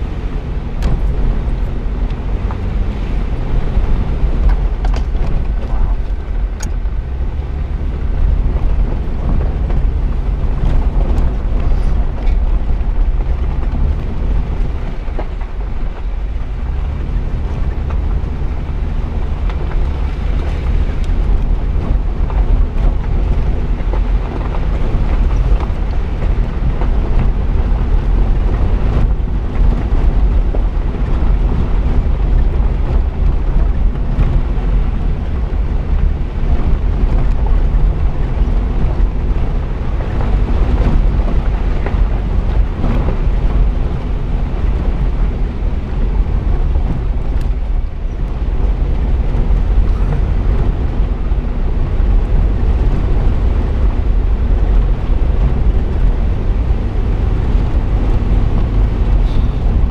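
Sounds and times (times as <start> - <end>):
engine and tyres rumbling: 0.0 - 59.9
wind buffeting microphone: 0.0 - 59.9.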